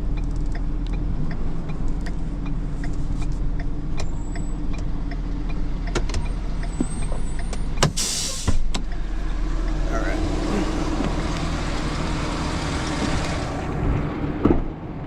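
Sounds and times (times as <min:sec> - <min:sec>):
vehicle engine idling: 0:00.0 - 0:13.9.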